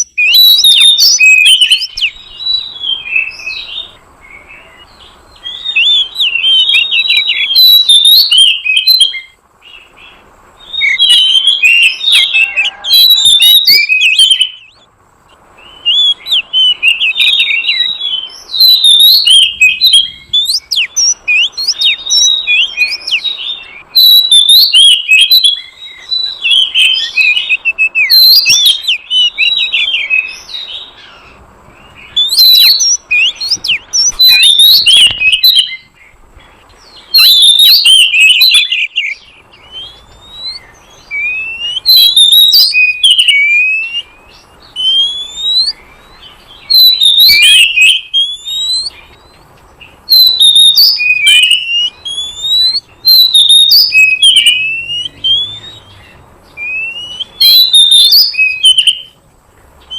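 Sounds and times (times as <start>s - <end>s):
magpie-robin song: 0.0s - 59.9s.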